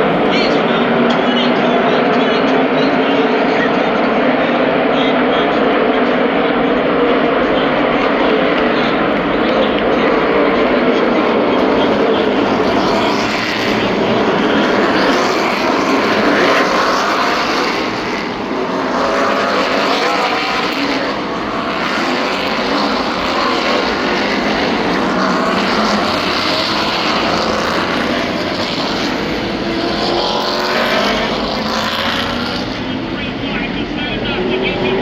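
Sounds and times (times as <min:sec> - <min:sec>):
race truck engines passing: 0:00.0 - 0:35.0.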